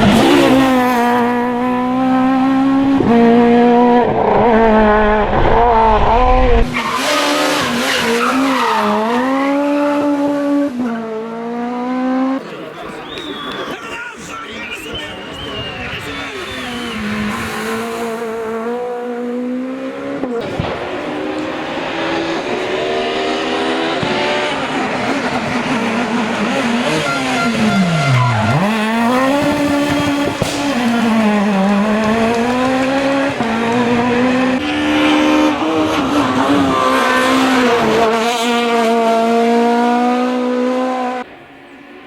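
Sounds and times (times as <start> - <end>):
rally car engine revving: 0.0 - 13.7, 14.6 - 42.0.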